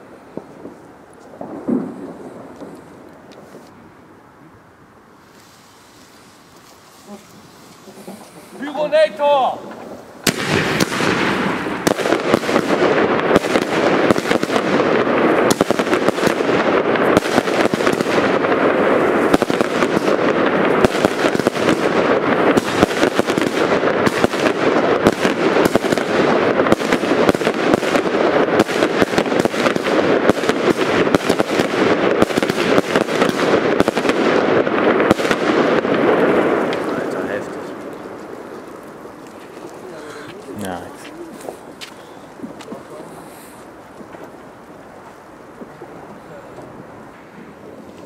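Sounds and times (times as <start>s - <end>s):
fireworks crackling and popping: 0.0s - 48.0s.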